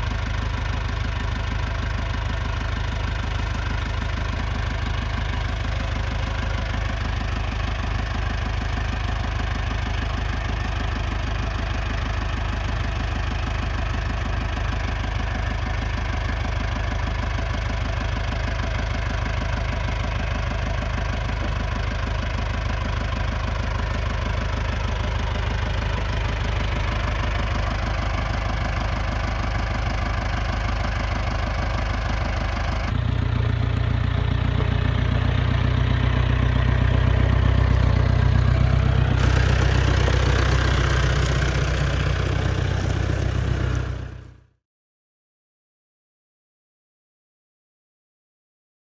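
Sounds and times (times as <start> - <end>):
tractor diesel engine idling: 0.0 - 44.5.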